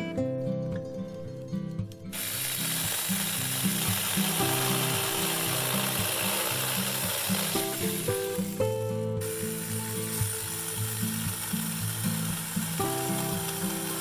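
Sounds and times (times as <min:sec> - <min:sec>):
mini chainsaw cutting wood: 0:02.1 - 0:14.0.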